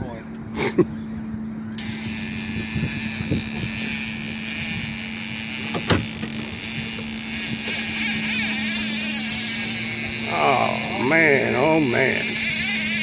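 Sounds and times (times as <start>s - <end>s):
boat engine idling: 1.7s - 13.0s
fishing reel clicker buzzing: 1.7s - 13.0s.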